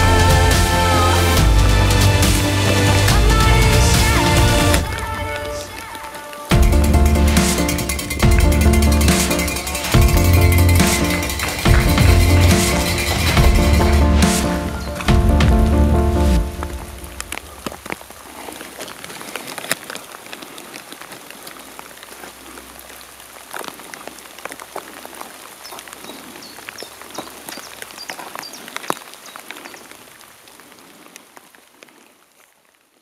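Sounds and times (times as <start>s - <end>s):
rain pattering on leaves and rock: 0.0s - 33.0s
water drips: 4.7s - 32.4s.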